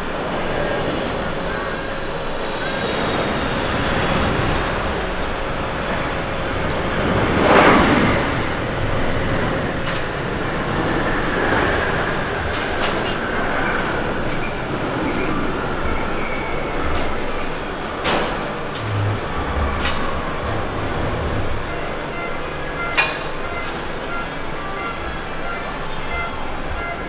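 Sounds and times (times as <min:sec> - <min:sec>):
jet engine reverse thrust roar: 0:00.0 - 0:27.0.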